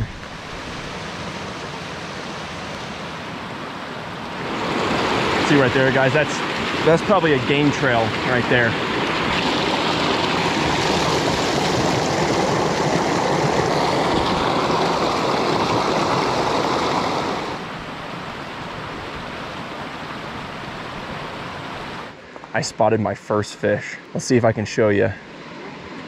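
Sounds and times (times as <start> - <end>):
stream rushing over rocks: 0.0 - 22.2.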